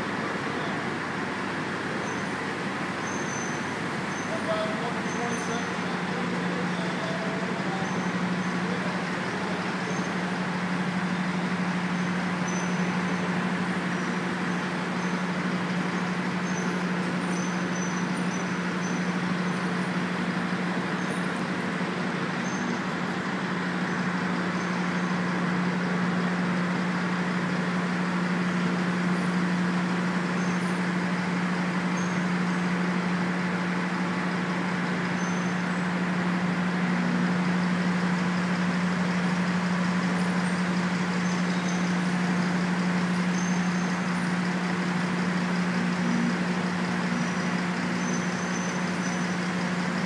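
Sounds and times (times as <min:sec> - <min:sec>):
machinery humming: 0:00.0 - 0:50.0.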